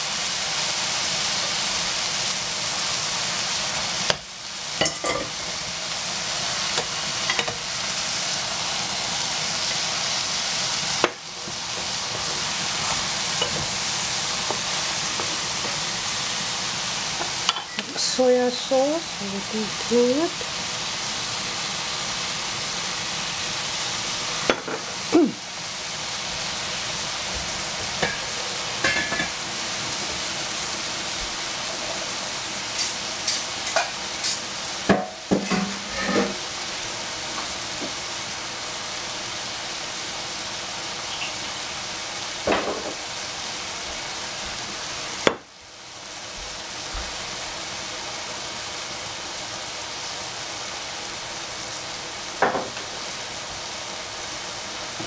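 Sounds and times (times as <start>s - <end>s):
noodles sizzling in frying pan: 0.0s - 55.0s.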